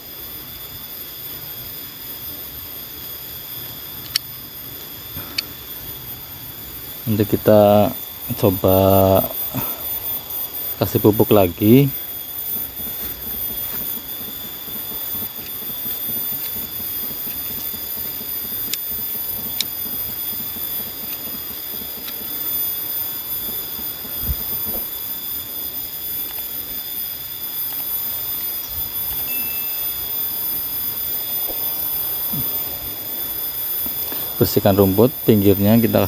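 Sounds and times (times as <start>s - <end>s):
high-pitched insect drone: 0.0s - 36.0s.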